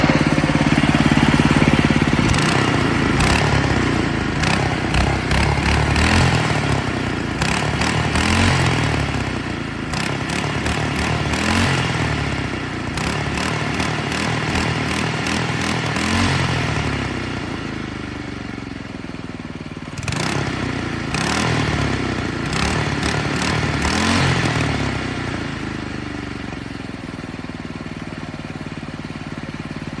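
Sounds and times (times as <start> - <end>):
small engine revving: 0.0 - 30.0.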